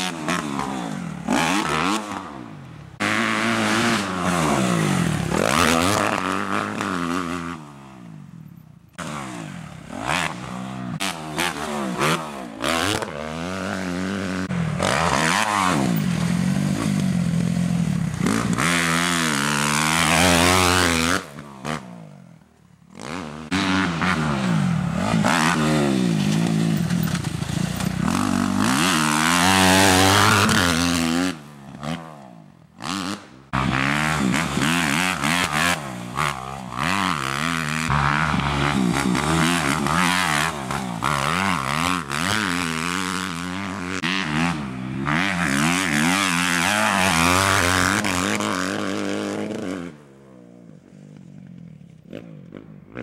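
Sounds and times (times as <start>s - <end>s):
motocross bike engine revving: 0.0s - 8.3s, 8.9s - 50.1s.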